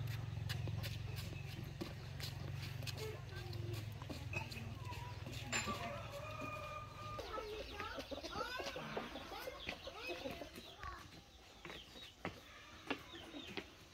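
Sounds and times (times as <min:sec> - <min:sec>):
chickens clucking: 0:00.1 - 0:13.9.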